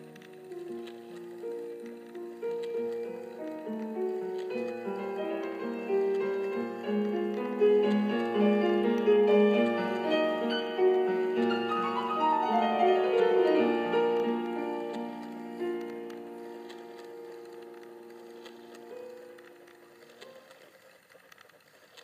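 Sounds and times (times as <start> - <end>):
piano melody: 0.0 - 20.8.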